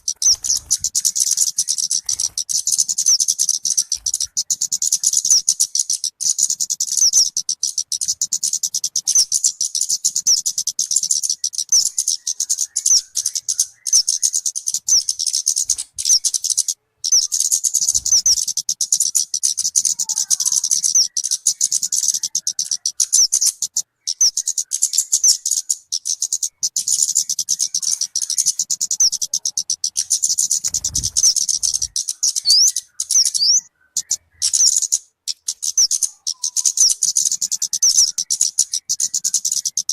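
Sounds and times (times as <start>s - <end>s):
bird high thin chirping: 0.0s - 39.9s.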